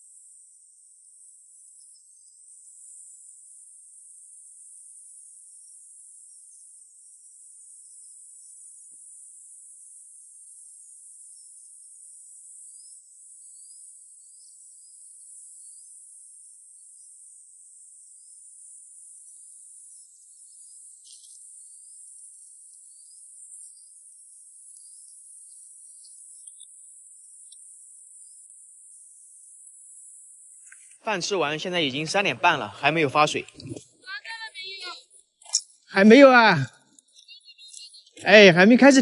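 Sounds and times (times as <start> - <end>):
insect chorus: 0.0 - 39.0.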